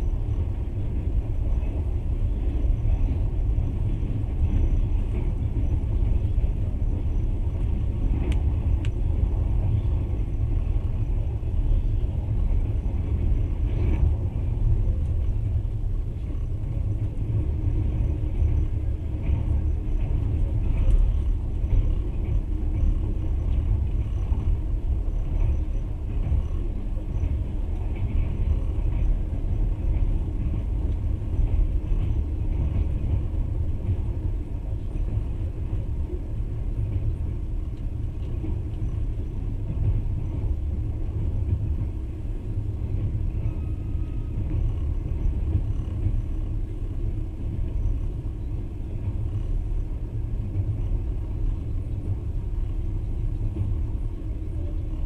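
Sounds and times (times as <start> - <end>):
passenger train rumbling on rails: 0.0 - 55.0.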